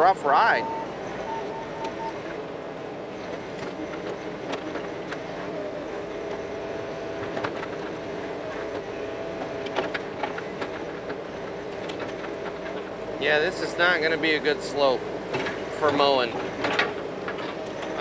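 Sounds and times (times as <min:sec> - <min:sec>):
mini excavator diesel engine: 0:00.0 - 0:18.0.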